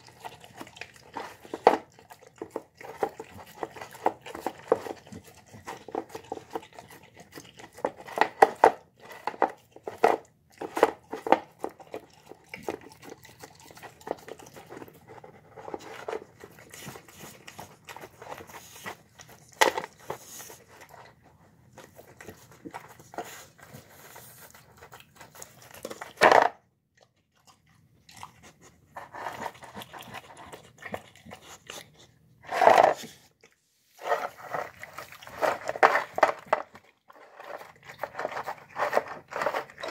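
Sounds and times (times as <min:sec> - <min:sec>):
dog chewing and licking: 0:00.0 - 0:26.2, 0:26.8 - 0:39.9.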